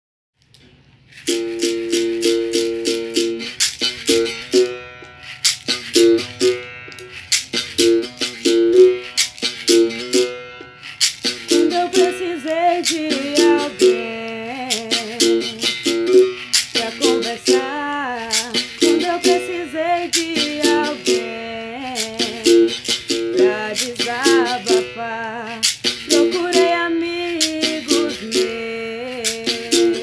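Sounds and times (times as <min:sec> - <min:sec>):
caxixi rattle shaking: 0:00.4 - 0:30.0.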